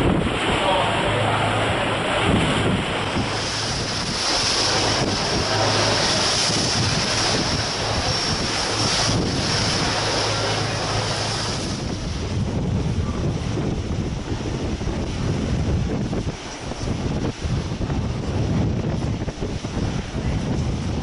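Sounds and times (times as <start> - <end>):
low engine hum: 0.0 - 21.0
rushing sea water: 0.0 - 21.0
wind buffeting microphone: 0.0 - 21.0.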